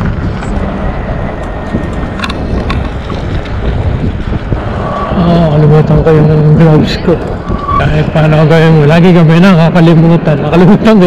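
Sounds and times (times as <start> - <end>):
wind buffeting on microphone: 0.0 - 11.0.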